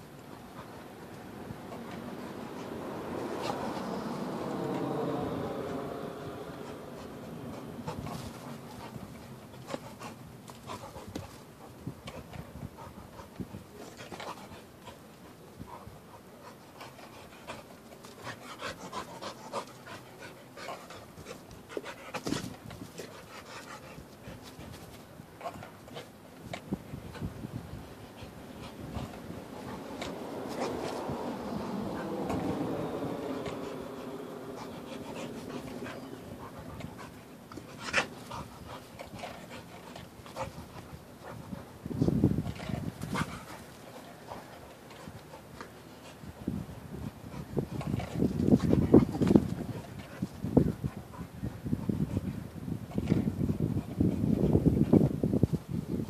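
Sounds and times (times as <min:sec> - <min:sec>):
dog panting: 0:00.0 - 0:55.1.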